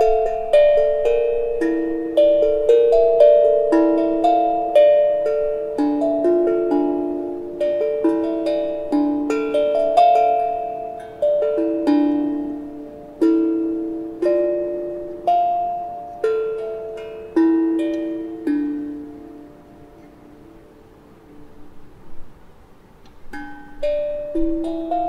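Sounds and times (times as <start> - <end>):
steel tongue drum melody: 0.0 - 25.0.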